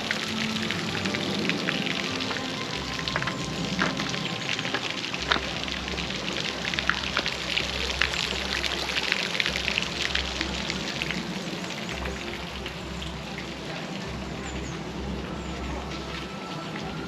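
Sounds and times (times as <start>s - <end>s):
water dripping: 0.0s - 17.0s
water splashing and trickling: 0.0s - 17.0s.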